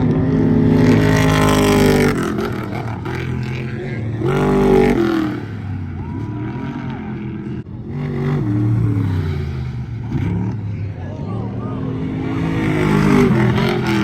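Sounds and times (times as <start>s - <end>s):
race truck engines at full throttle: 0.0s - 14.0s.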